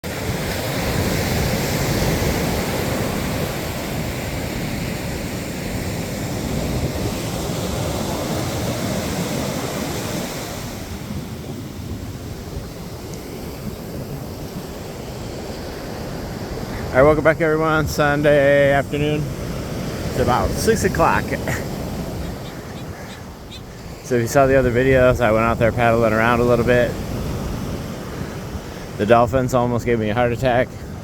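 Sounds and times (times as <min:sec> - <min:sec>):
ocean surf washing on beach: 0:00.0 - 0:31.0
wind rumbling on microphone: 0:00.0 - 0:31.0.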